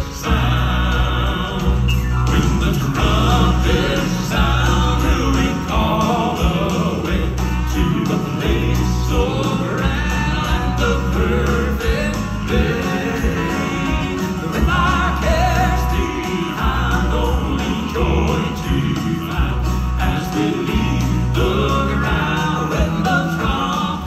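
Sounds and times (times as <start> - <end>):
live band with bass notes: 0.0 - 24.0
male quartet singing in harmony: 0.0 - 24.0.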